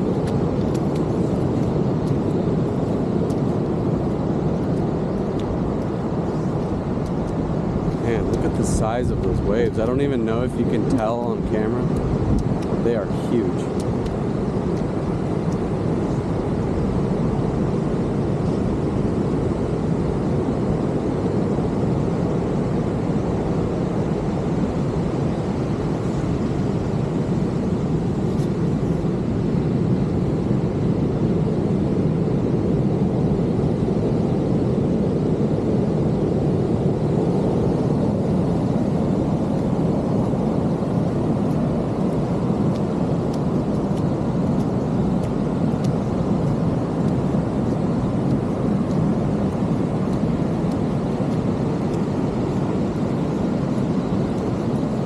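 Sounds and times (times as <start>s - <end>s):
heavy ocean surf breaking: 0.0s - 55.0s.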